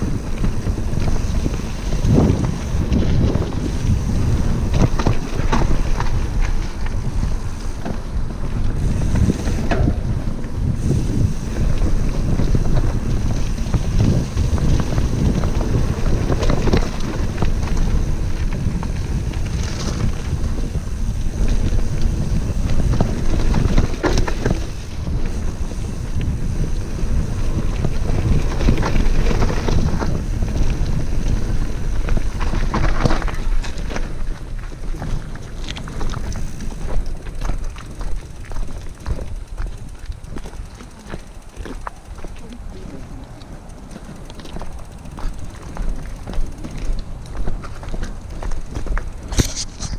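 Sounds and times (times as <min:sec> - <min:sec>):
bike knocks and rattles: 0:00.0 - 0:42.6
bike tyres rolling on dirt: 0:00.0 - 0:49.9
wind buffeting microphone: 0:00.0 - 0:49.9.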